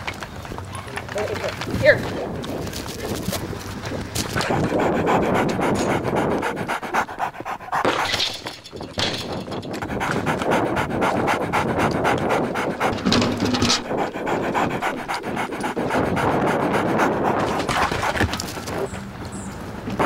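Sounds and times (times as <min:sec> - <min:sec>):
dog panting hard: 0:01.6 - 0:20.0.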